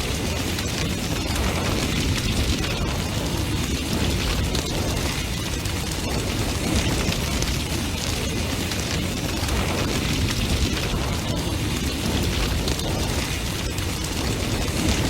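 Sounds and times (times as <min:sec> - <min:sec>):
burning wood crackling and popping: 0:00.0 - 0:15.0
fire roaring: 0:00.0 - 0:15.0.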